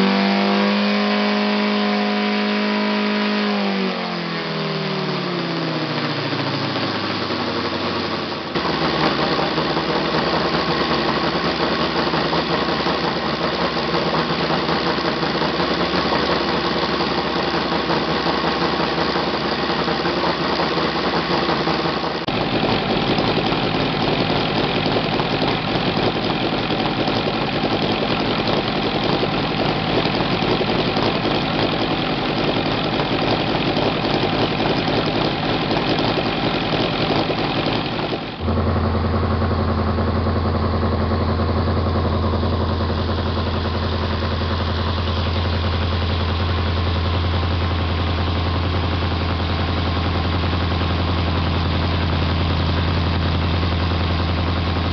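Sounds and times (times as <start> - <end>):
model aircraft engine running: 0.0 - 54.9.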